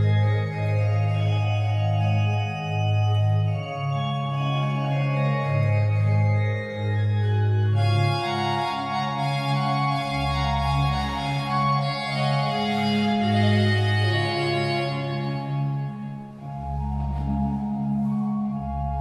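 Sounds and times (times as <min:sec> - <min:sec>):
pipe organ playing chords: 0:00.0 - 0:19.0.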